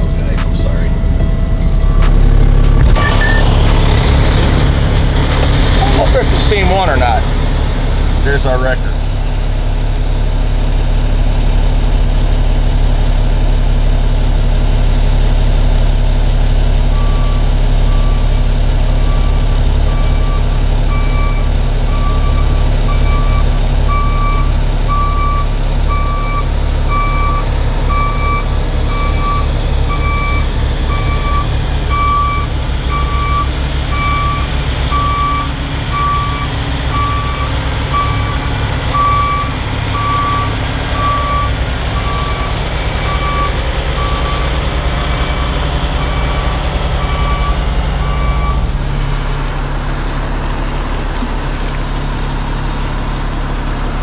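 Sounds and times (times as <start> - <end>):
truck reversing alarm beeping: 0.0 - 9.1, 16.1 - 53.8
diesel truck engine rumbling: 0.0 - 54.0.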